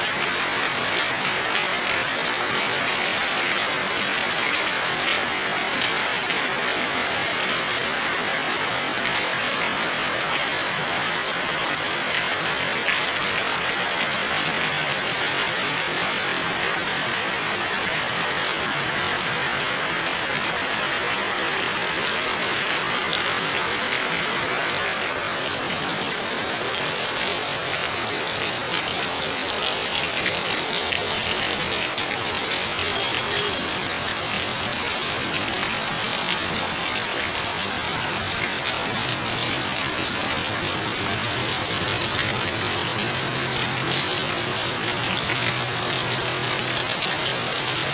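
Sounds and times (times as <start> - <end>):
heavy rain on concrete and foliage: 0.0 - 47.9.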